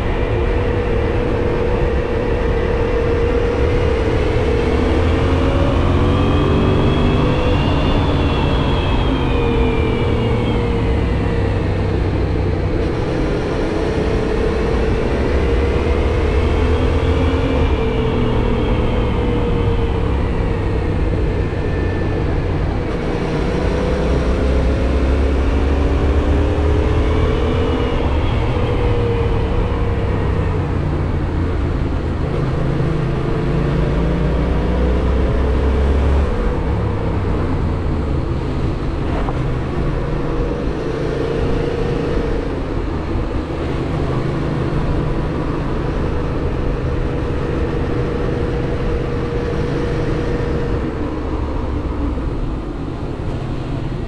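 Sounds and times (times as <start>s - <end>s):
wind noise: 0.0s - 54.0s.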